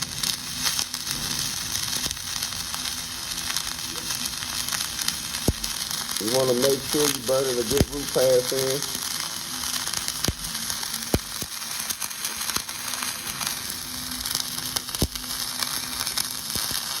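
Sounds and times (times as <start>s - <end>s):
welding arc crackling hiss: 0.0s - 17.0s.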